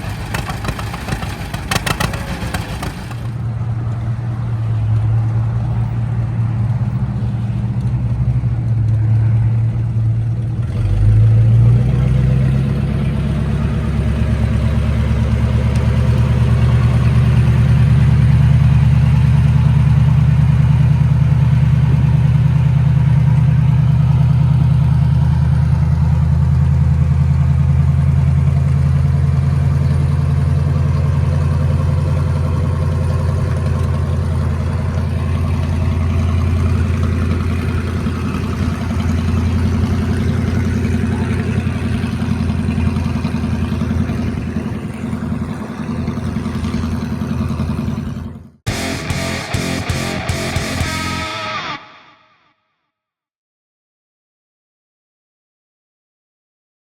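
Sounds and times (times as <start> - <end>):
tractor engine running: 0.0 - 51.8.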